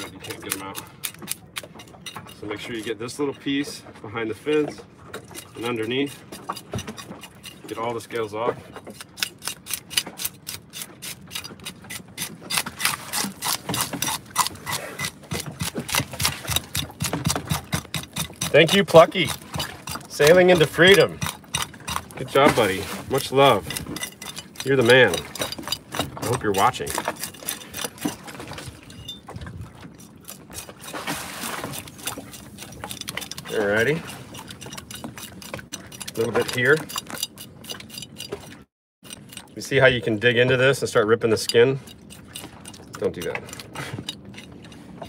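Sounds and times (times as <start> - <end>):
fish scaler scraping scales: 0.0 - 45.0.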